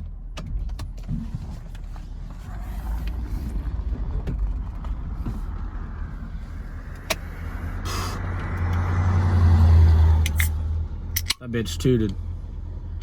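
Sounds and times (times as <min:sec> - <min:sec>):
diesel engine drone: 0:00.0 - 0:13.0
road noise: 0:00.0 - 0:13.0.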